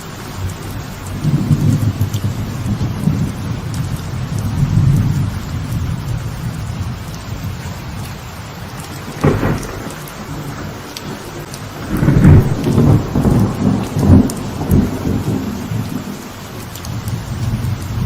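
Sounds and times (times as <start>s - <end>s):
light rain on a veranda: 0.0s - 18.0s
deep roll of thunder: 1.1s - 8.1s, 9.0s - 18.0s.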